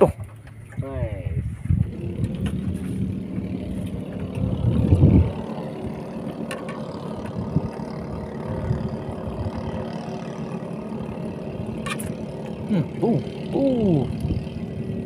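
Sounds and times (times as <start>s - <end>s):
engine running hum: 0.0s - 15.0s
low engine rumble: 0.0s - 15.0s.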